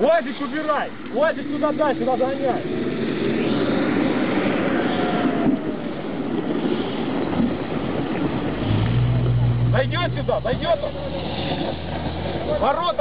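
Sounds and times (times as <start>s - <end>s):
low engine hum: 1.0s - 13.0s
armoured vehicle driving on gravel: 1.4s - 13.0s.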